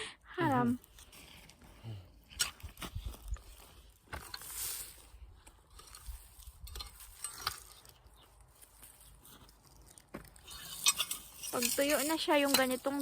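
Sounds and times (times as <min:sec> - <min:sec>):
soil and foliage crunching: 0:00.4 - 0:13.0.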